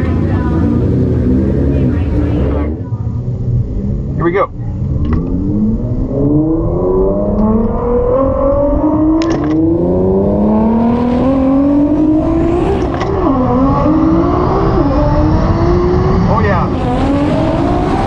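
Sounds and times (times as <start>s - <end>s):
road and tyre roar: 0.0s - 18.0s.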